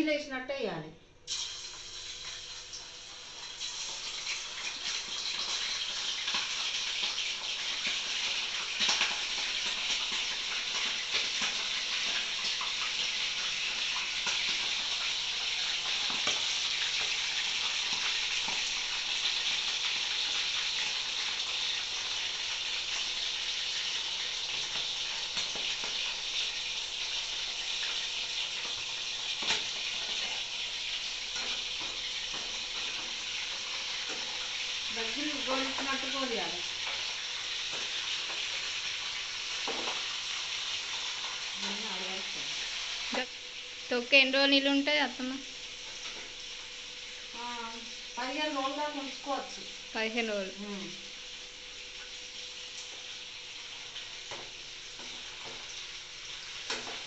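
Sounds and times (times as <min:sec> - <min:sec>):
chicken sizzling in hot oil: 0:01.3 - 0:57.0.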